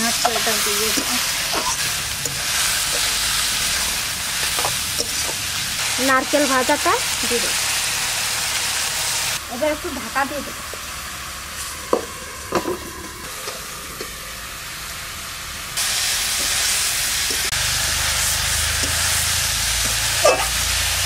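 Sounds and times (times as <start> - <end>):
pan sizzling hiss: 0.0 - 21.0.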